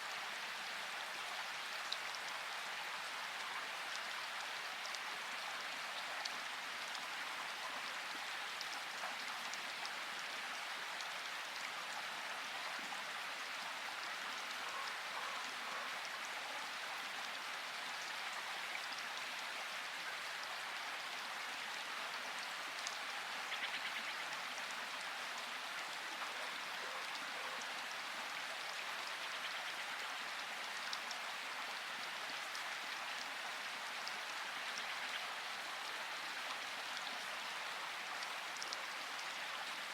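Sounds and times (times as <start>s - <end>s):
steady rain in a forest: 0.0s - 39.9s.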